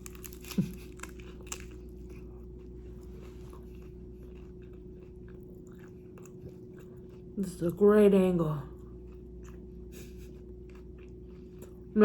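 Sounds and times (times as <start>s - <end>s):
person chewing: 0.0s - 7.4s, 8.7s - 11.9s
low electrical hum: 0.0s - 12.0s.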